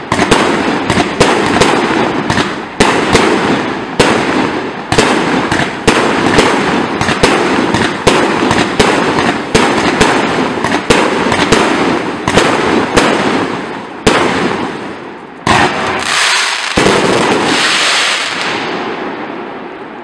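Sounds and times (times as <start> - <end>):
fireworks crackling: 0.0 - 20.0
fireworks sharp reports: 0.0 - 20.0.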